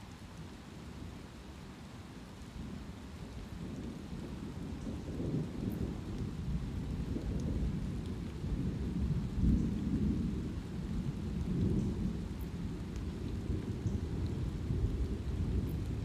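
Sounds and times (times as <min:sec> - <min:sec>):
light rain: 0:00.0 - 0:16.0.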